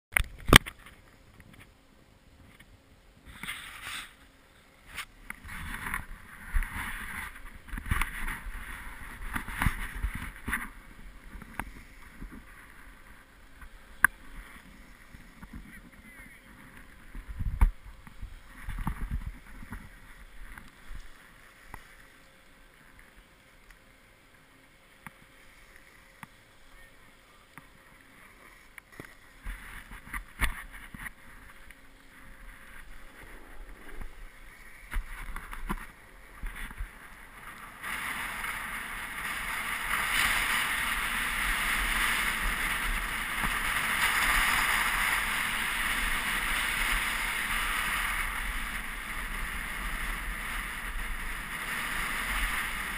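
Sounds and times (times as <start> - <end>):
snowboard sliding over snow: 3.2 - 52.9.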